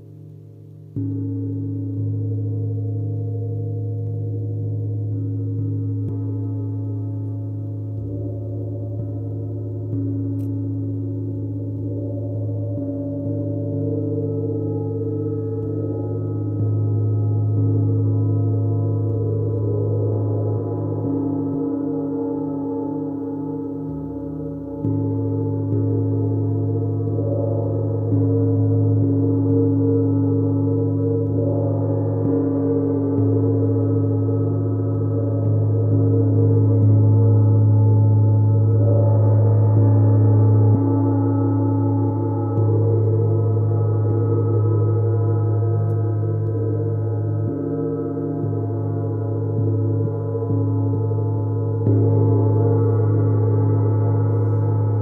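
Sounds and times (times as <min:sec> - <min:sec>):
deep steady hum: 0:00.0 - 0:55.0.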